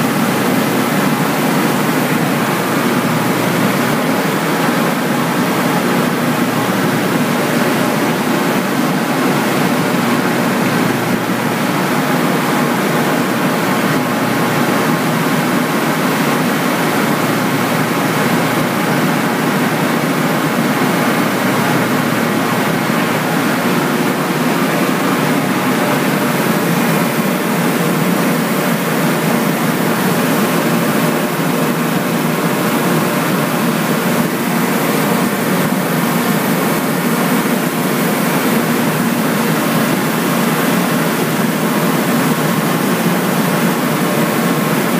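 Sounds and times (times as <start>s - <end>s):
loud industrial plant noise: 0.0s - 44.9s.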